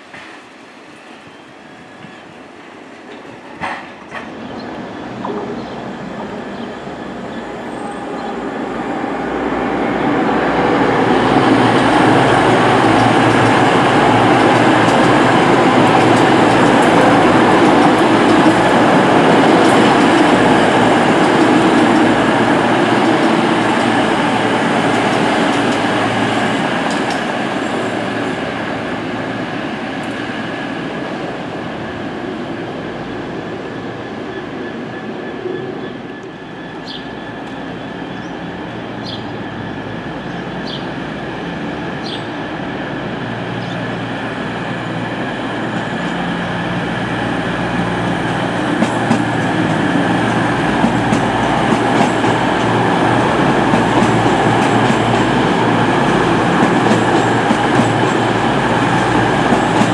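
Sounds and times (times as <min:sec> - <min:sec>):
diesel train passing: 0:00.0 - 0:59.9.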